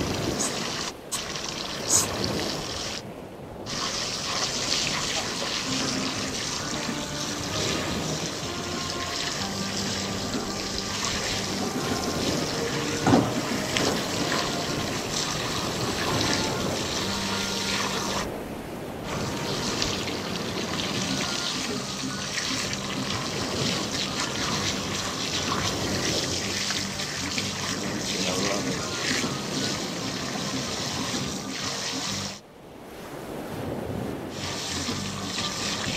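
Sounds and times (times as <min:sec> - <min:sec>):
running water splashing: 0:00.0 - 0:32.4, 0:33.1 - 0:35.9.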